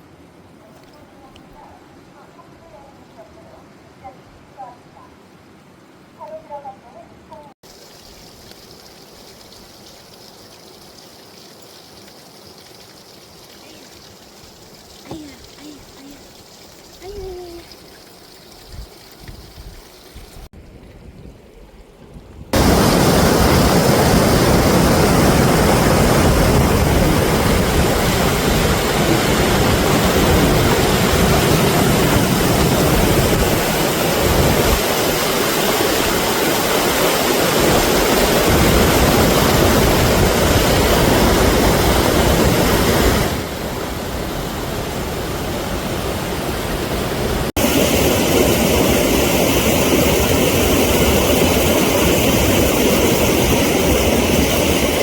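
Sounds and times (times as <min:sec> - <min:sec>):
stream rushing over boulders: 0:07.6 - 0:20.5, 0:22.5 - 0:55.0.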